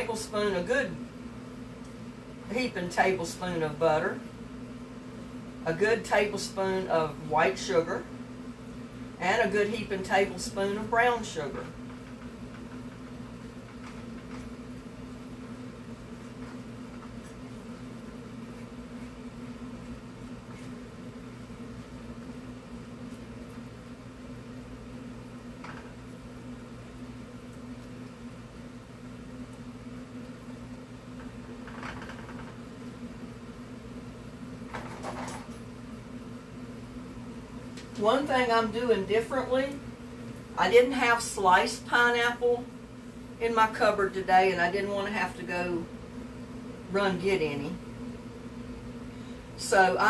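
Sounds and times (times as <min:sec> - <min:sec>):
exhaust fan and air conditioner hum: 0:00.0 - 0:50.0.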